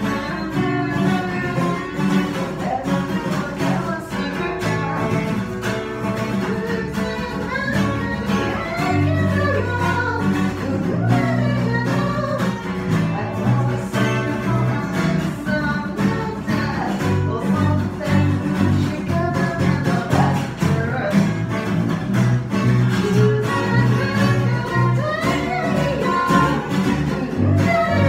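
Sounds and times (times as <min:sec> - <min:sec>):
woman singing: 0:00.0 - 0:21.8, 0:22.4 - 0:28.0
acoustic guitar strumming: 0:00.0 - 0:28.0
electric bass notes: 0:00.0 - 0:28.0.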